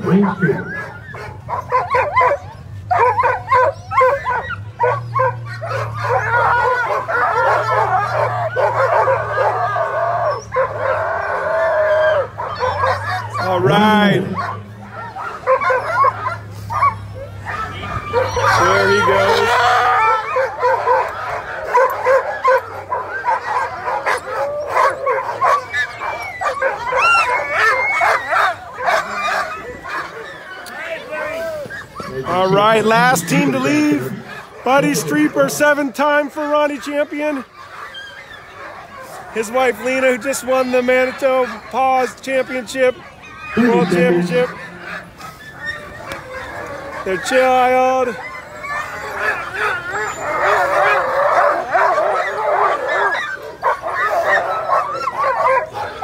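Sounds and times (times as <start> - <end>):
sled dogs yelping and howling: 0.0 - 56.0.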